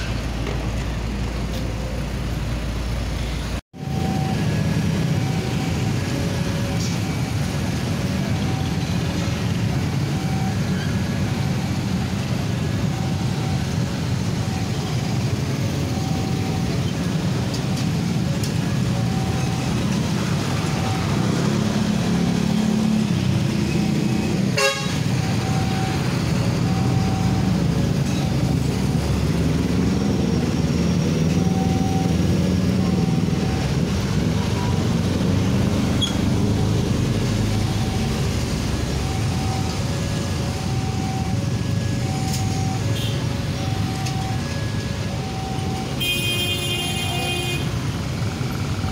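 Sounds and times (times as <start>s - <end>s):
motorcycle and truck engines passing: 0.0s - 48.9s.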